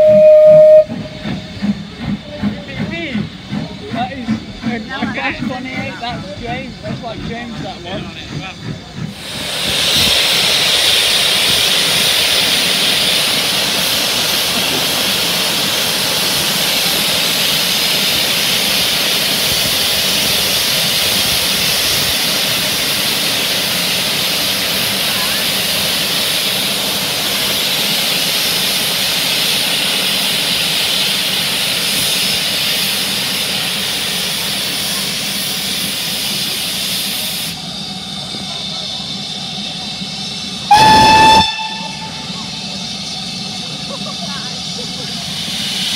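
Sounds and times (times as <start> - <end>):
steam locomotive hissing steam: 0.0 - 45.9.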